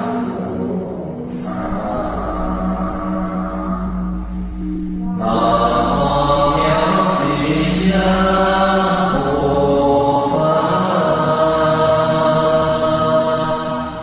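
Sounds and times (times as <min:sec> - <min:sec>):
voices chanting mantra: 0:00.0 - 0:14.0.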